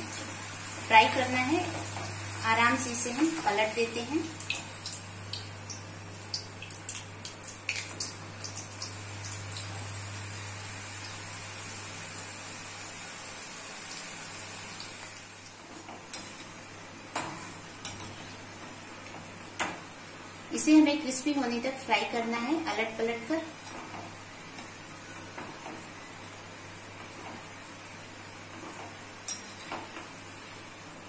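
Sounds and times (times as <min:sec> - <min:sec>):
noodles sizzling in hot oil: 0:00.0 - 0:31.0.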